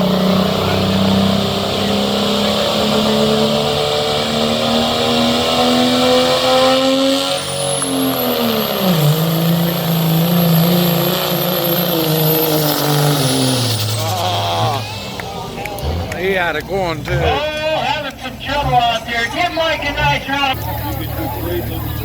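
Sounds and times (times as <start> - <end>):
diesel truck engine straining: 0.0 - 22.0.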